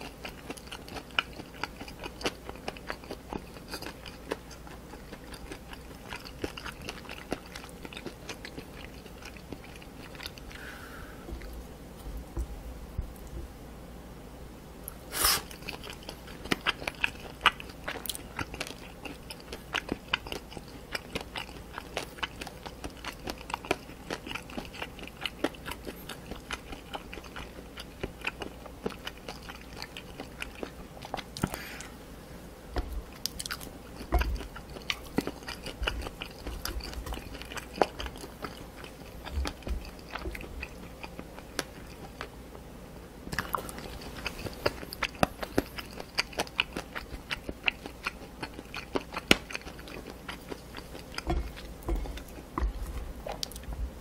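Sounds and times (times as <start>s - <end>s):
person chewing with crunches: 0.0s - 13.4s, 14.9s - 42.4s, 43.3s - 54.0s.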